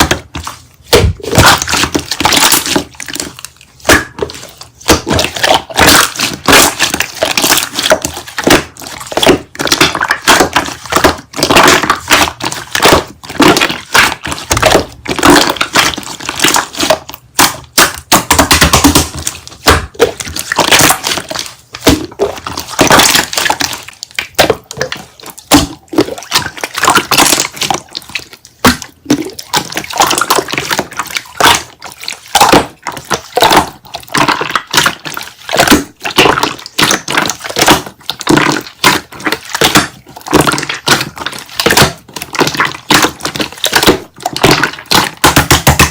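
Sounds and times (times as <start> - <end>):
slime squished by hand: 0.0 - 45.9.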